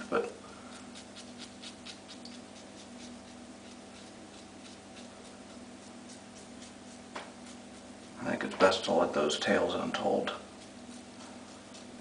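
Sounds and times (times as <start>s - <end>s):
razor scraping stubble: 0.0s - 12.0s.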